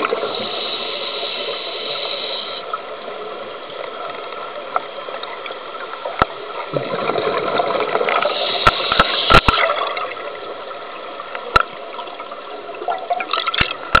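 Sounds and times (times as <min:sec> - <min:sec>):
muffled rushing water underwater: 0:00.0 - 0:14.0.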